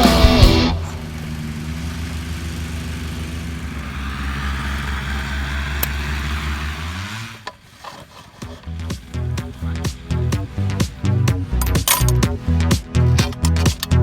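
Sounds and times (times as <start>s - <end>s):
paramotor engine running: 0.0s - 14.0s.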